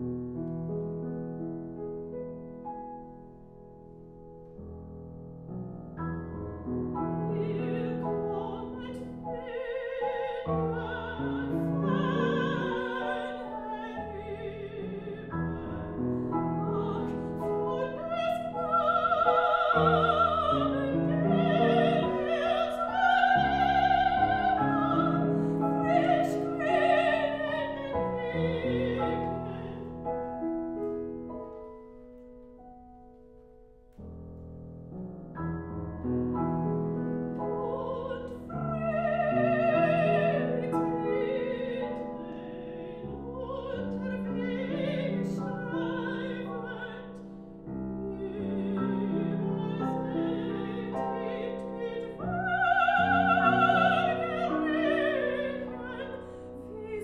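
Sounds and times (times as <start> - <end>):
grand piano: 0.0 - 57.0
soprano singing: 6.1 - 31.8, 35.7 - 57.0.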